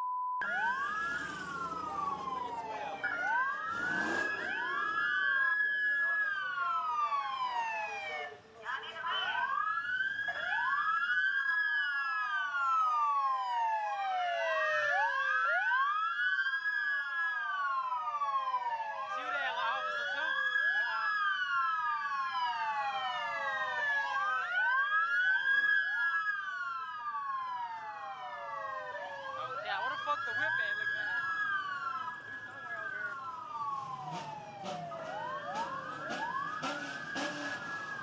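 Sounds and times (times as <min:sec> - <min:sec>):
police sirens wailing: 0:00.4 - 0:38.0.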